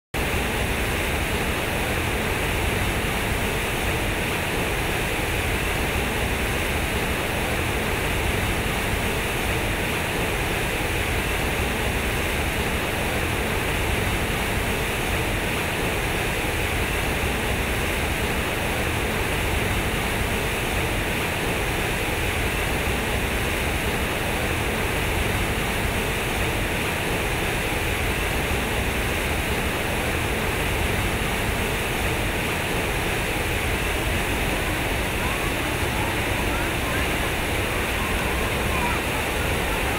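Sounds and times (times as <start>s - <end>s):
fountain water splashing: 0.2s - 39.9s.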